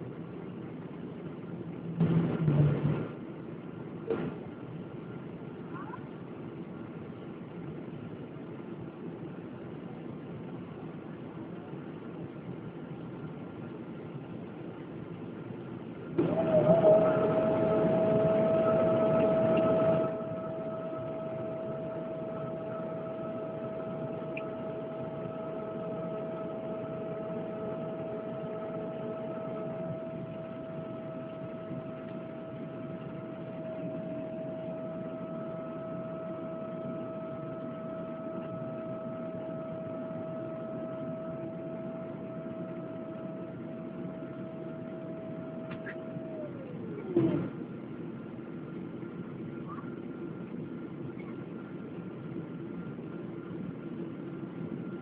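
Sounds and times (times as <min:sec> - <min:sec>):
mechanical whine: 0:00.0 - 0:55.0.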